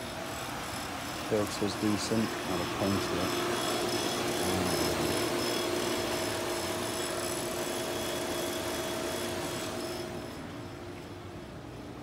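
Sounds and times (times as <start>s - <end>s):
pool pump motor humming: 0.0s - 12.0s.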